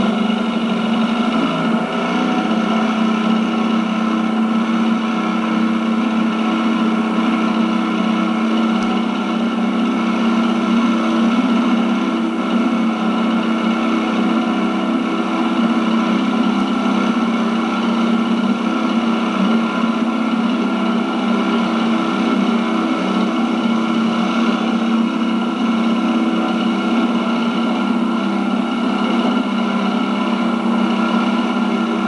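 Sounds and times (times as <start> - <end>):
boat motor droning: 0.0 - 32.0.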